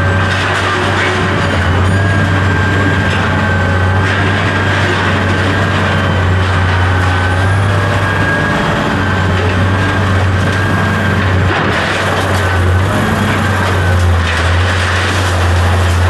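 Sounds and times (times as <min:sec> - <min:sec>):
machine low hum: 0:00.0 - 0:16.0.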